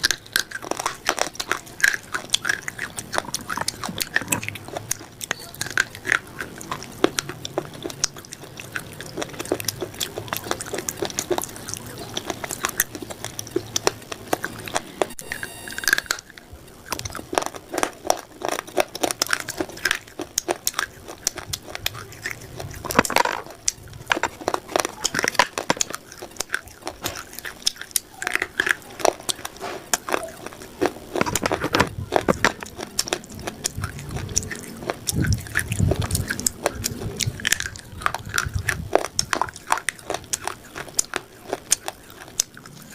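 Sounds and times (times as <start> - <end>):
crunchy food chewing: 0.0 - 42.9.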